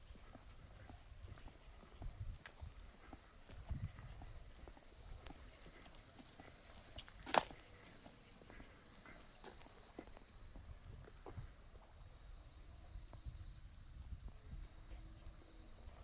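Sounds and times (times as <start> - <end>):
faint dog footsteps: 0.0 - 16.0
high-pitched insect call: 1.3 - 16.0.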